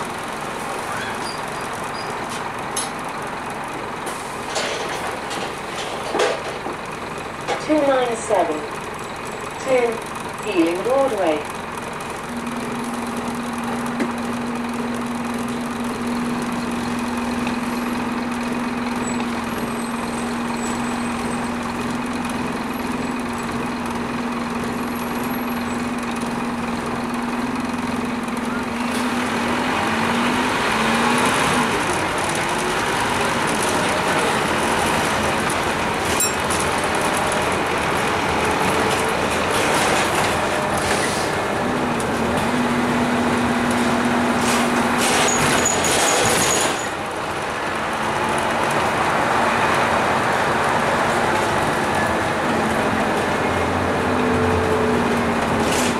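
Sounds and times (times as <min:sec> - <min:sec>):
bus diesel engine running: 0:00.0 - 0:55.9
road noise: 0:00.0 - 0:55.9.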